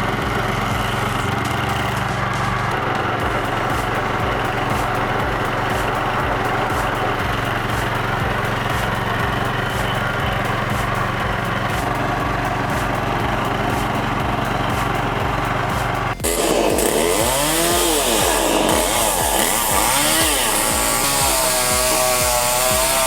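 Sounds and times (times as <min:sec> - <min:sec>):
stump grinder engine running: 0:00.0 - 0:23.0.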